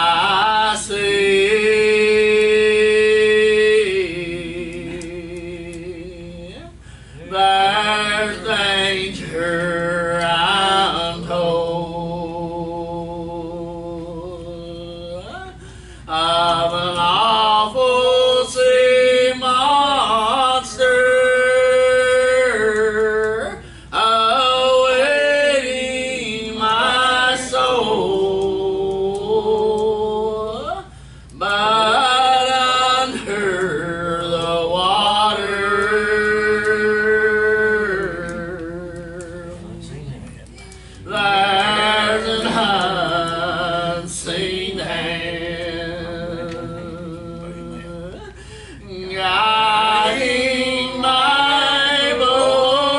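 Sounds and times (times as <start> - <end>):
people singing a hymn: 0.0 - 6.6, 7.2 - 39.9, 41.0 - 52.9.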